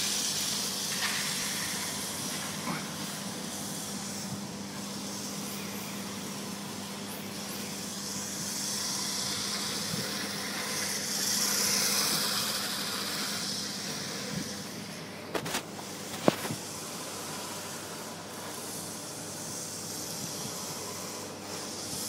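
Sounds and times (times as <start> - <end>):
rc car tyres and drivetrain hiss: 0.0 - 22.0.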